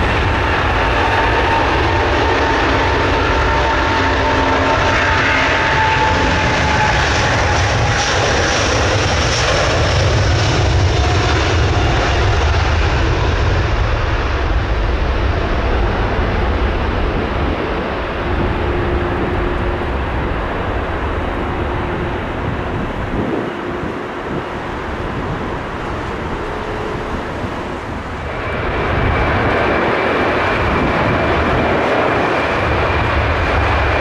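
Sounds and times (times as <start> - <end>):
high jet engine whine: 0.0 - 34.0
jet engine rumble: 0.0 - 34.0.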